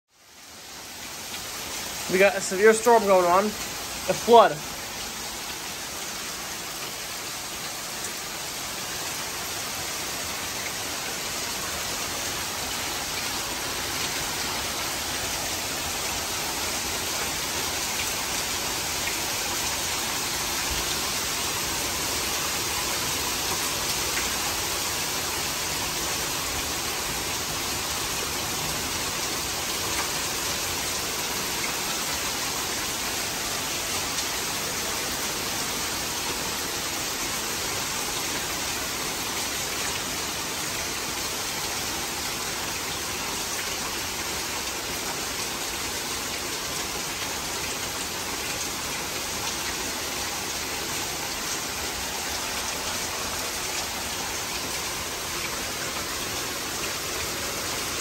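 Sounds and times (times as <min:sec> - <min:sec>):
heavy rain pouring: 0:00.1 - 0:58.0.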